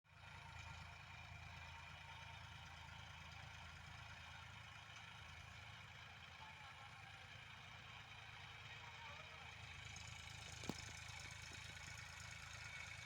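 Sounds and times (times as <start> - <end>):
tractor engine running: 0.1 - 13.0.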